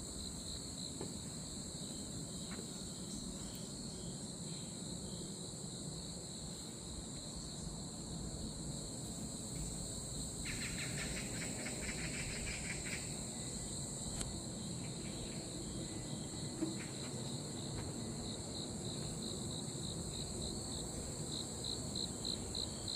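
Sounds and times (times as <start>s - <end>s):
insects chirping: 0.0s - 22.9s
low rapid insect trill: 0.0s - 22.9s.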